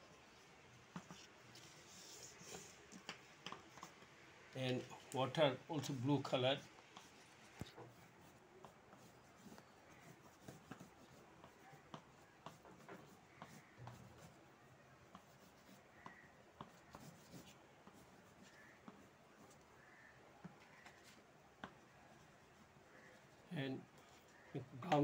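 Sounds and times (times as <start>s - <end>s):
colouring tool scratching on paper: 0.9s - 4.0s, 6.6s - 14.4s, 15.1s - 24.5s.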